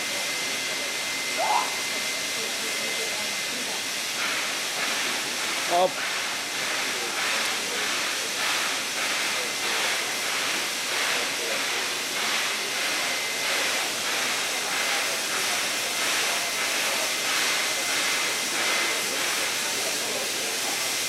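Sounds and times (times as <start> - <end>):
steam hissing: 0.0 - 21.0
steam locomotive exhaust chuffs: 0.0 - 21.0.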